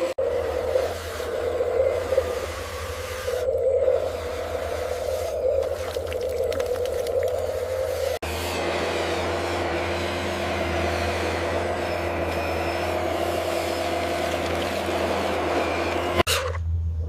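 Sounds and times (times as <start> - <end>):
motor hum with low drone: 0.0 - 17.0.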